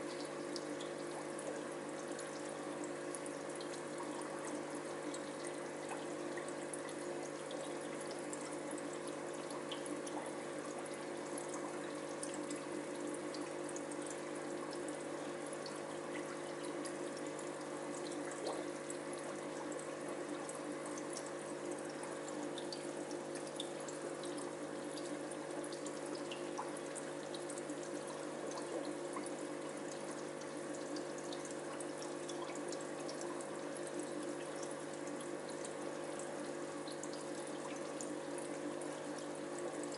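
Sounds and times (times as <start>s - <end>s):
low pump hum: 0.0s - 39.9s
water trickling and bubbling: 0.0s - 39.9s.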